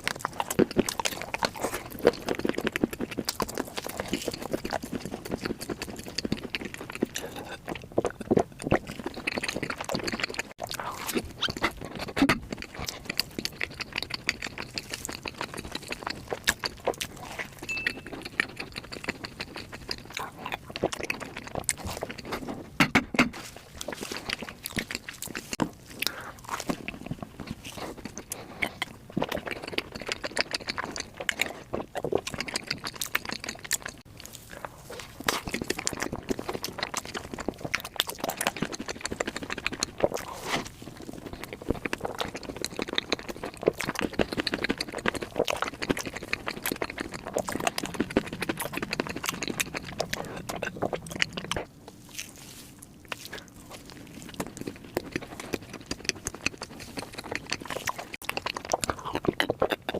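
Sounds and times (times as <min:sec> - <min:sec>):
sticky mouth clicks: 0:00.0 - 0:51.8, 0:53.1 - 0:59.9
chewing and biting: 0:00.0 - 0:59.9.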